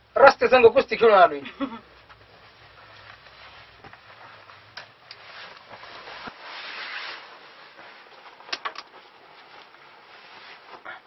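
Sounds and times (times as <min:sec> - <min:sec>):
shirt fabric rustling: 0:01.8 - 0:11.0.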